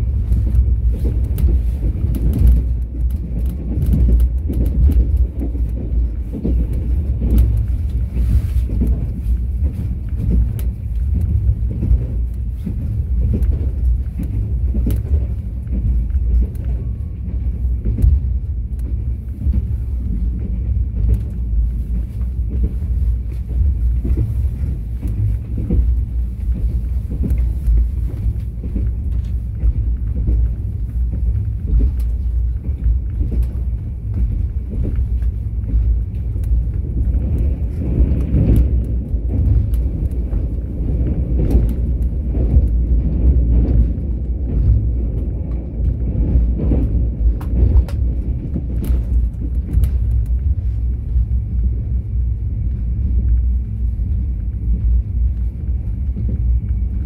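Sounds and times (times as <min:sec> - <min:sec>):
train rumbling along track: 0:00.0 - 0:57.0.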